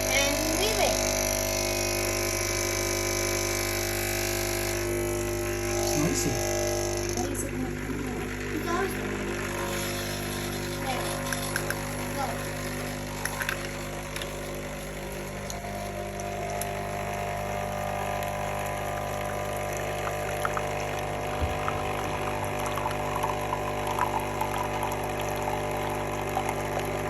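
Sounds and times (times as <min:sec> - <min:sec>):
coffee machine pump humming: 0:00.0 - 0:27.0
coffee running into cup: 0:01.7 - 0:27.0.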